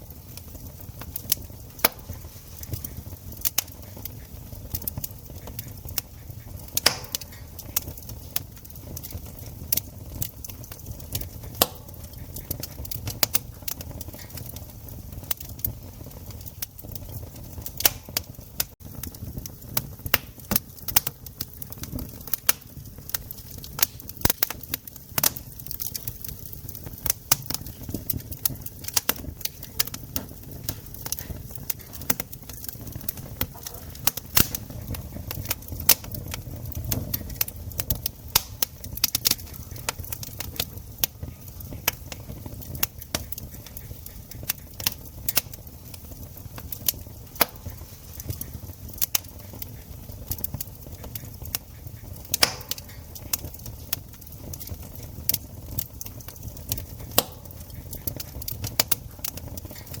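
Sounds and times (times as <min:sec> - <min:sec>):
campfire crackling: 0:00.0 - 1:00.0.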